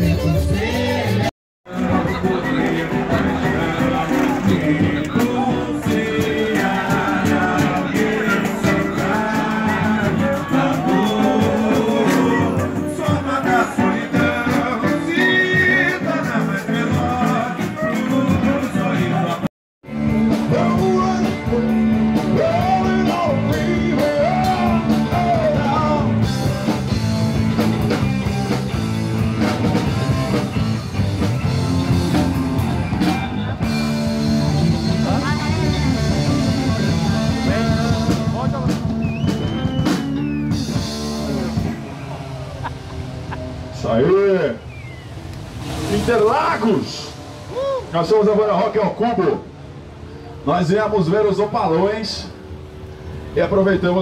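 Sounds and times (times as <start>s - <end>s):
live rock band playing: 0.0s - 44.5s.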